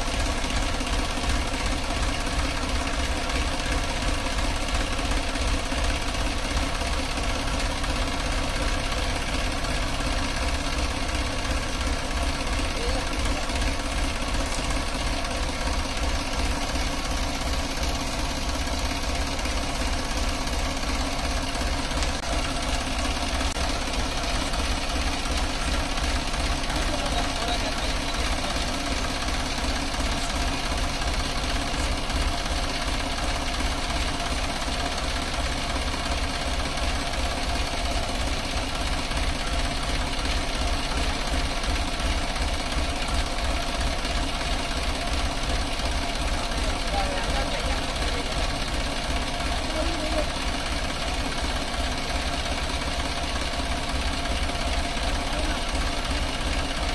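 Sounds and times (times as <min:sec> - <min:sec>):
tractor diesel engine clatter: 0:00.0 - 0:56.9.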